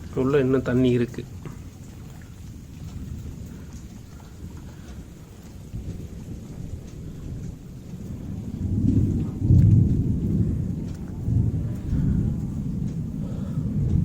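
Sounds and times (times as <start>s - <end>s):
deep rumble of thunder: 0.0s - 14.0s
raindrops falling: 0.0s - 14.0s.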